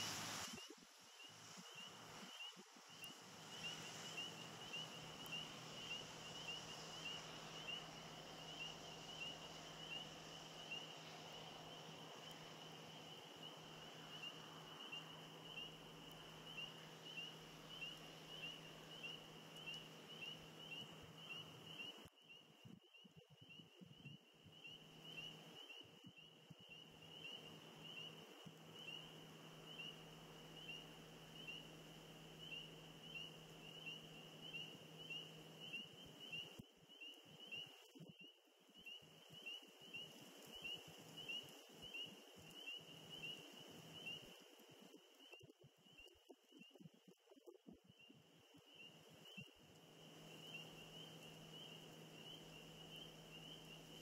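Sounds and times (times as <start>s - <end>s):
low steady hum: 0.0s - 54.0s
frogs peeping: 0.5s - 54.0s.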